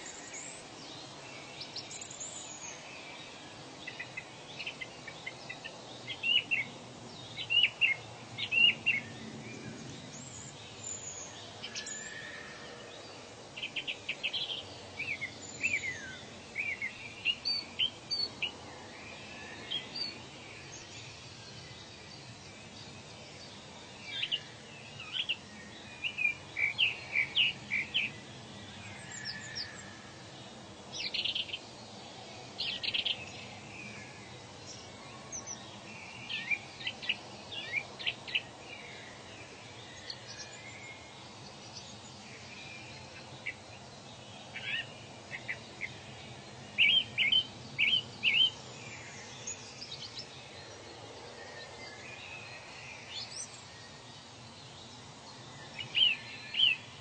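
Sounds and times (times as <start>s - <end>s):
birds chirping: 0.0s - 57.0s
faint background hiss: 0.0s - 57.0s.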